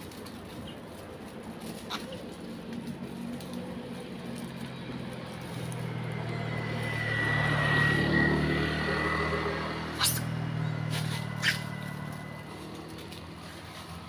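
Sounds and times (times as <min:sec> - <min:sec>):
motor scooter passing: 0:00.0 - 0:14.0.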